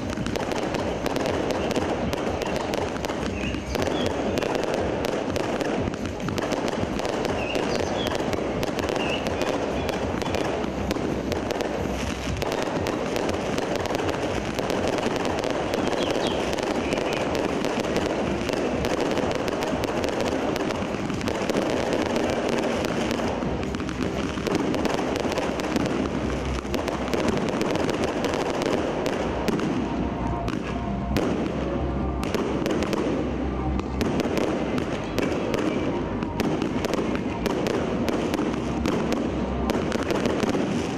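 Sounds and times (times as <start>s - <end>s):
fireworks crackling and popping: 0.0s - 40.9s
low rumble of bursts: 0.0s - 40.9s.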